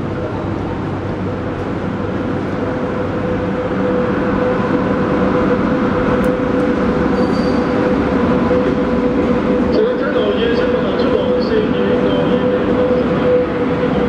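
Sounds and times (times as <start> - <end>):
train rumbling: 0.0 - 14.0
steady high tone: 2.0 - 14.0.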